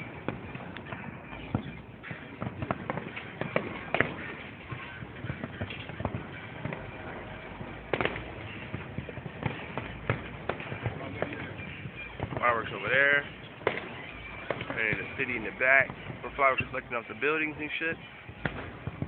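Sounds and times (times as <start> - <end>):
fireworks popping and crackling: 0.0 - 19.0
loud firework bangs: 0.0 - 19.0.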